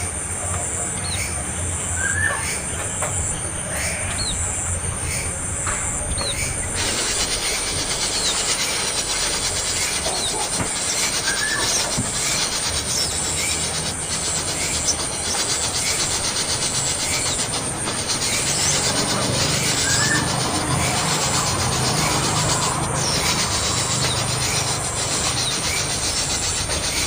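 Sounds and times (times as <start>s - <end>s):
dense rasping hiss: 0.0s - 27.0s
young bird begging chirps: 1.0s - 27.0s.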